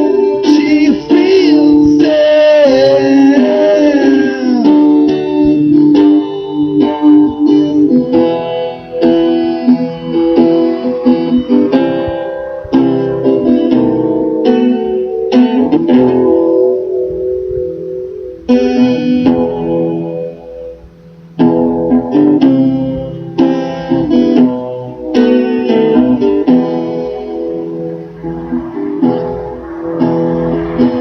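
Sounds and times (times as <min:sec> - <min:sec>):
band playing guitar passage: 0:00.0 - 0:31.0.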